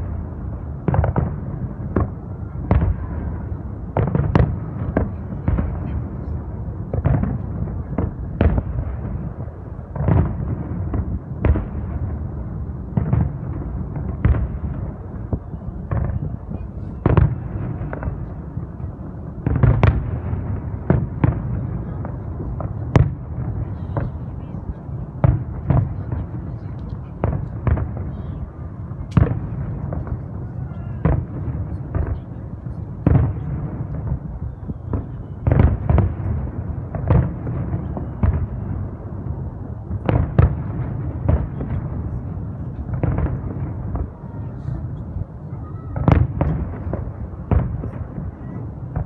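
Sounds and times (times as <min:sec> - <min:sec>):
fireworks bursting bangs: 0:00.0 - 0:49.0.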